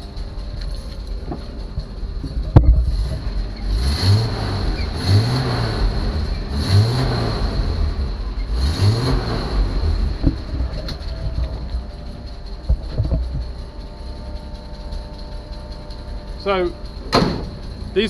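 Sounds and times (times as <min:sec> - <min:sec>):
engine revving: 0:02.5 - 0:18.0.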